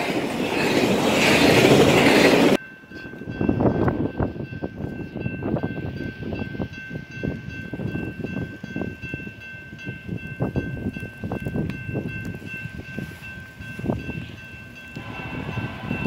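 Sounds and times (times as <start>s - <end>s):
distant train approaching: 0.0s - 16.0s
wind buffeting microphone: 0.0s - 16.0s.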